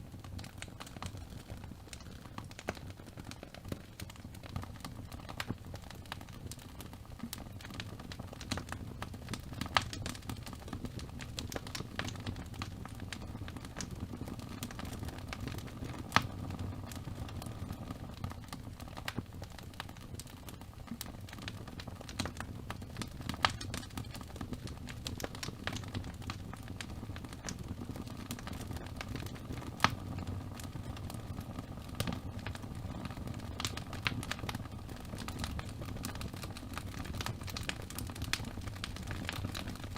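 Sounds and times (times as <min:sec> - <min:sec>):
wood fire crackling: 0:00.0 - 0:39.9
sharp fire pops: 0:00.1 - 0:39.9.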